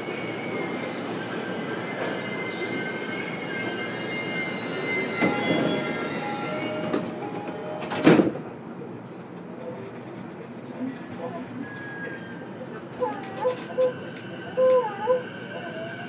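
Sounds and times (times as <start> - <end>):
train rail rumble: 0.0 - 16.0.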